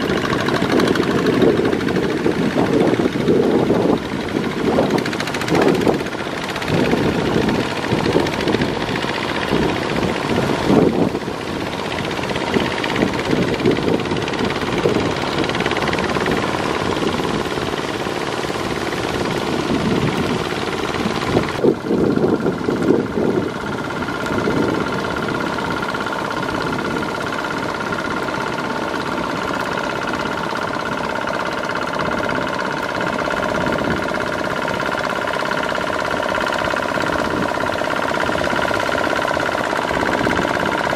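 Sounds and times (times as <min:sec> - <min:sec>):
diesel tractor engine under load: 0:00.0 - 0:40.9
mud and water churning: 0:00.0 - 0:40.9.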